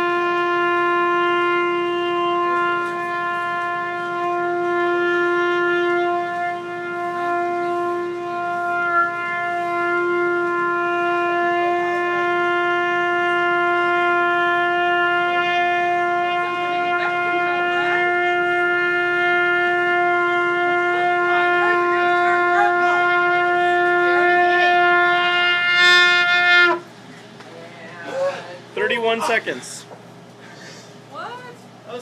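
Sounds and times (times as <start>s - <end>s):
trumpet holding steady note: 0.0s - 27.1s, 28.8s - 29.8s.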